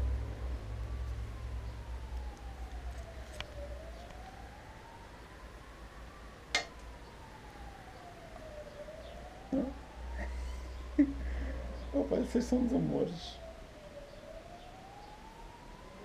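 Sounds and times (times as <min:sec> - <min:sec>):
siren wailing: 0:00.0 - 0:16.0.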